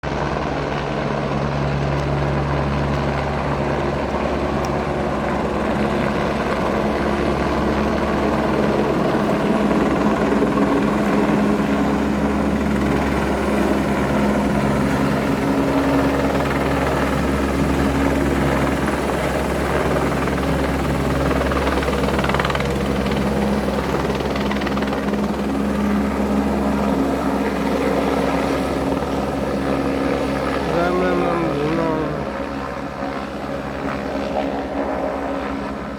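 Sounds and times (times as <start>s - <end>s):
helicopter running: 0.0s - 35.9s.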